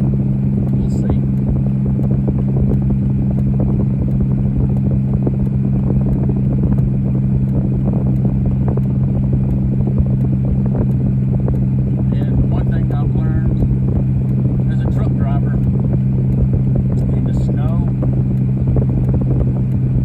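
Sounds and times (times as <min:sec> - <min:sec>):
motor vehicle engine running: 0:00.0 - 0:20.0.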